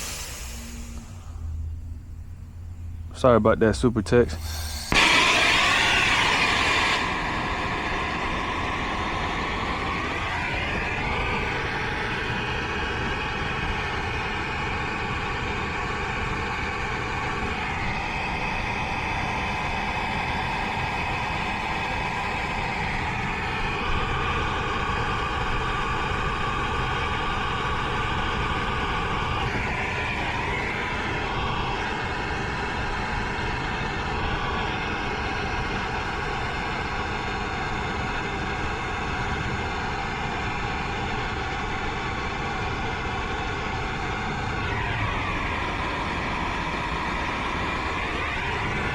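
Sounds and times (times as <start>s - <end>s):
torch flame hissing: 0.0s - 1.2s, 4.1s - 48.9s.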